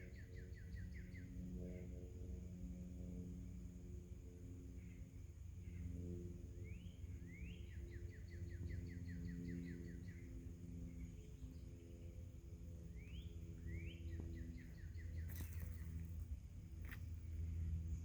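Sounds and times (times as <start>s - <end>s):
songbird singing: 0.0s - 2.6s, 4.6s - 18.0s
steady low hum: 0.0s - 18.0s.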